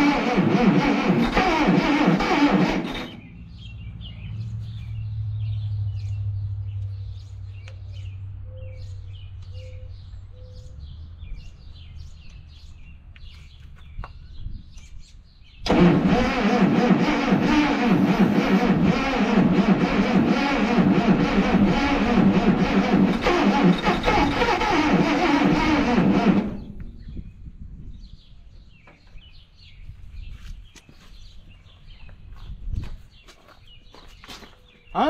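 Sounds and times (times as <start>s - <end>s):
birds chirping: 2.3s - 35.0s.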